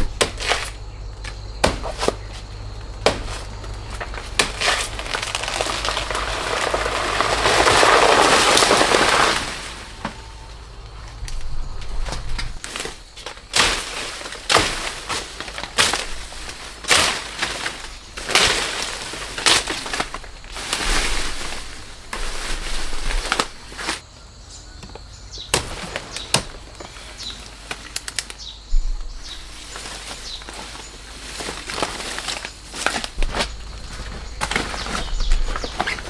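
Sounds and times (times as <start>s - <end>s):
leaves rustling and crackling: 0.0s - 24.0s, 25.4s - 36.0s.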